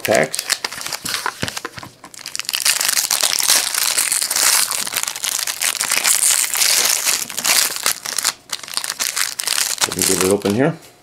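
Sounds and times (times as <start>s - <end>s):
foil wrapper crinkling: 0.0s - 10.6s.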